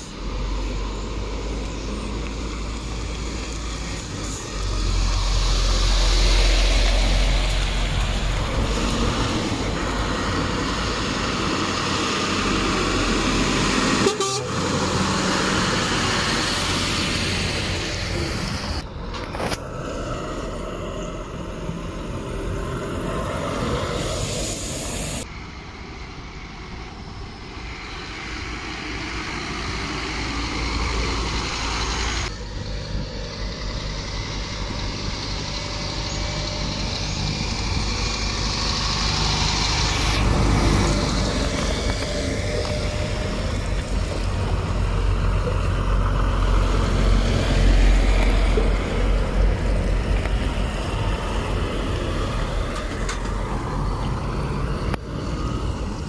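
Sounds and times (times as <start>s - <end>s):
lorry diesel engines passing: 0.0s - 56.0s.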